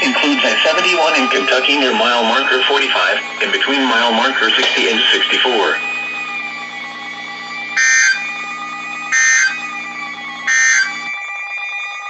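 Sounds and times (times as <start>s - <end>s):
steady background hum: 0.0s - 11.1s
shrill digital data bursts: 0.0s - 11.3s.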